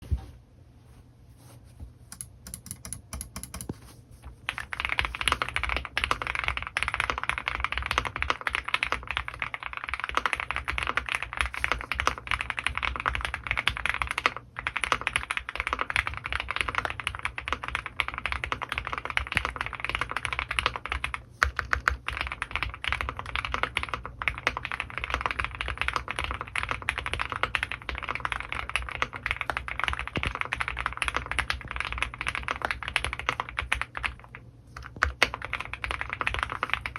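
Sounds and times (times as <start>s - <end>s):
mechanical keyboard typing: 2.1s - 3.8s, 4.4s - 36.9s.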